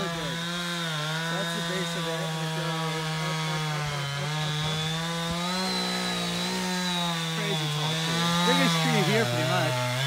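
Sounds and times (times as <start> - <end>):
chainsaw cutting tree: 0.0 - 10.0.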